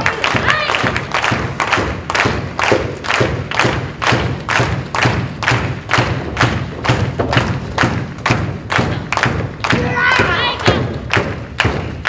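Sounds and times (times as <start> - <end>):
audience clapping in unison: 0.0 - 12.0.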